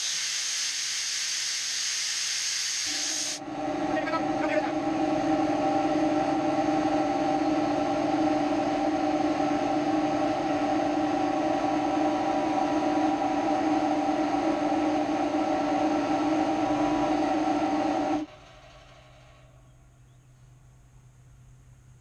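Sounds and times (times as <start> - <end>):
air hissing: 0.0 - 18.3
air compressor pump whining: 0.0 - 19.7.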